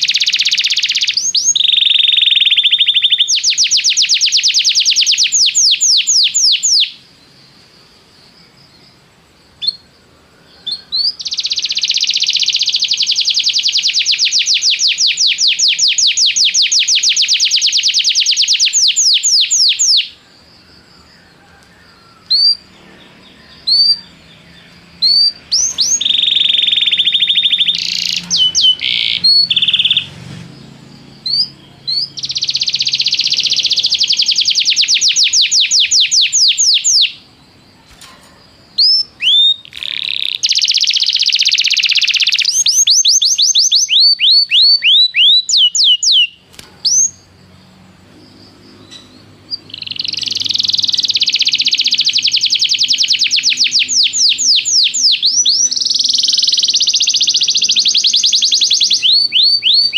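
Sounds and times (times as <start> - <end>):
canary singing: 0.0 - 7.6, 9.6 - 59.9.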